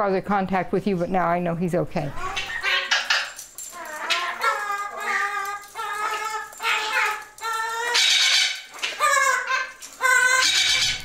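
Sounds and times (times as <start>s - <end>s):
parrot squawk: 2.1s - 11.0s.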